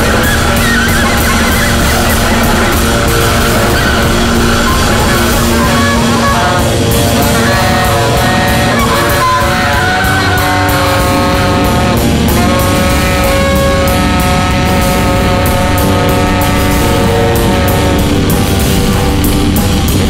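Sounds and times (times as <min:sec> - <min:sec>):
distorted noise drone: 0:00.0 - 0:20.0
drum and cymbal hits: 0:00.0 - 0:20.0
held stacked pitched tones: 0:00.0 - 0:20.0.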